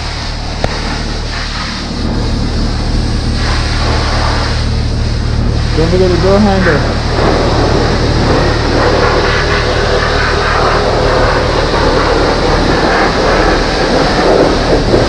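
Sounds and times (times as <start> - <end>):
pressure washer spraying water: 0.0 - 15.0.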